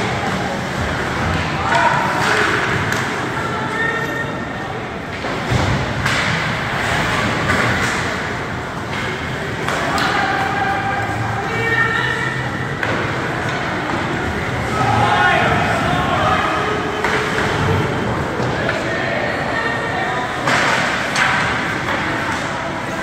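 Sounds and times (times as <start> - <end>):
hockey sticks and puck clacking: 0.0 - 23.0
hubbub of voices: 0.0 - 23.0.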